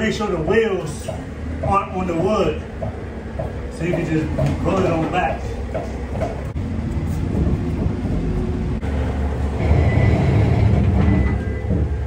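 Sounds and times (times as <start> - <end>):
forklift engine rumble: 0.0 - 12.0.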